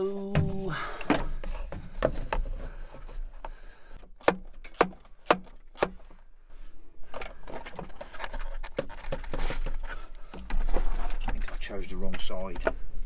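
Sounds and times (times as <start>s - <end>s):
rustling and handling of parts: 0.0s - 13.0s.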